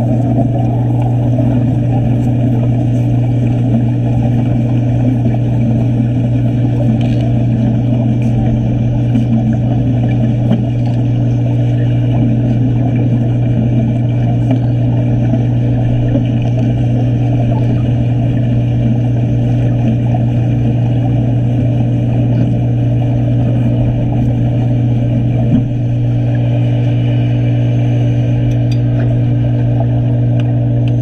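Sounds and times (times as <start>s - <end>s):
low hum: 0.0s - 31.0s
muffled underwater rumble: 0.0s - 31.0s.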